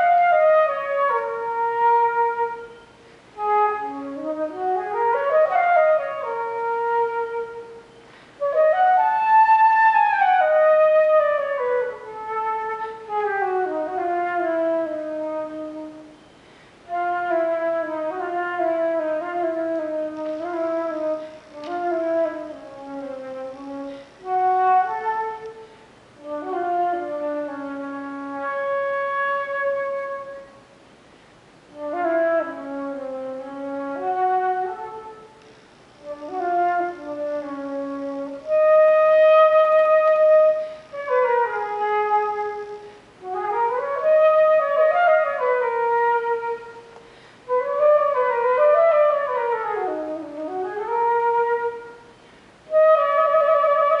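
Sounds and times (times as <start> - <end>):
solo flute playing: 0.0 - 30.8, 31.7 - 35.4, 36.0 - 54.0.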